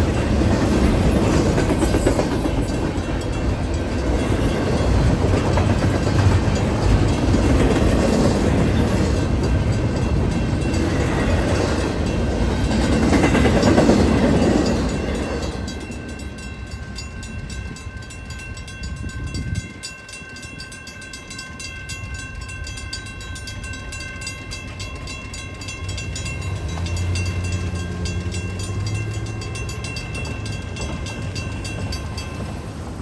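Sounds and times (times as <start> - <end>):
crossing warning bell ringing: 0.0 - 33.0
freight train rumbling: 0.0 - 33.0.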